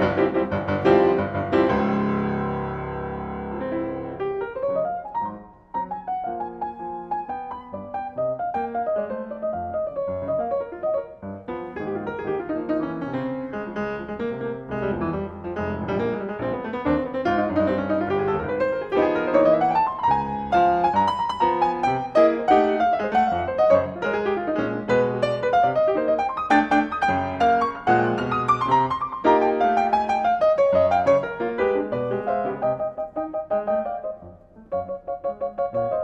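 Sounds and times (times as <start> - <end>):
solo jazz piano: 0.0 - 36.0.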